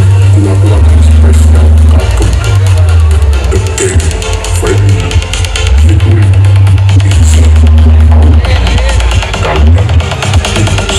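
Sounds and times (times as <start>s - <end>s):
heavy sustained bass: 0.0s - 4.0s, 4.6s - 10.7s
electronic dance music: 0.0s - 10.9s.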